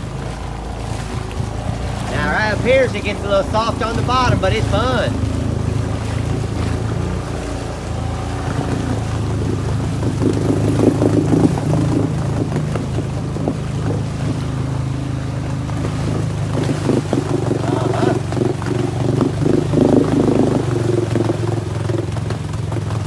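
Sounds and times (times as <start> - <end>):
quad engine running: 0.0 - 23.0
water splashing around wheels: 0.0 - 23.0.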